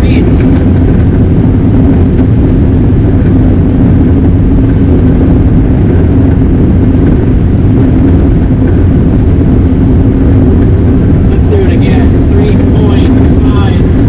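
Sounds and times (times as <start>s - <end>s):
combine drone inside cab: 0.0s - 14.0s.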